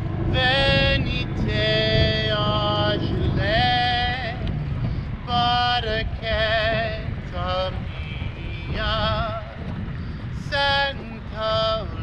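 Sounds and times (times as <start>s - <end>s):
man singing long held notes: 0.0s - 12.0s
rumble of wind and water: 0.0s - 12.0s.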